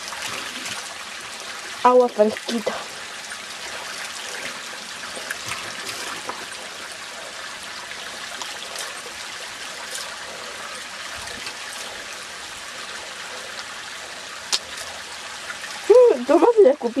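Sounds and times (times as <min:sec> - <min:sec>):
stream splashing over rocks: 0:00.0 - 0:17.0.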